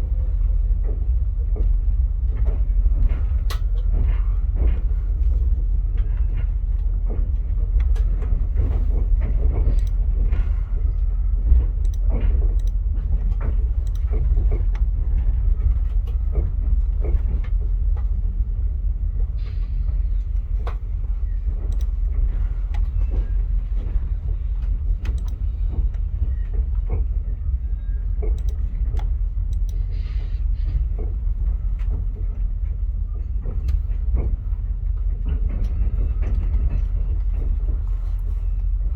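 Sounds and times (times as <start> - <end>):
train clicks and knocks: 0.0 - 38.9
train low rumble: 0.0 - 38.9.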